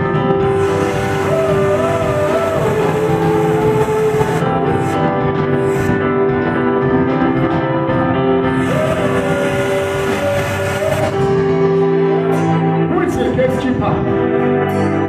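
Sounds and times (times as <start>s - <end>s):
slow sustained music chords: 0.0s - 13.1s.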